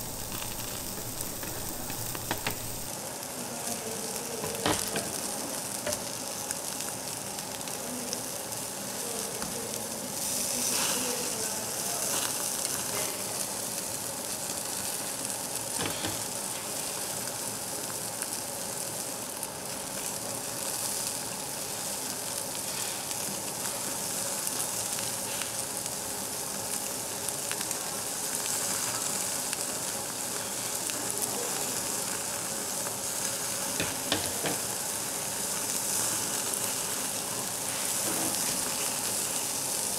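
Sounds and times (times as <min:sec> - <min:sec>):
meat sizzling on a grill: 0:00.0 - 0:39.9.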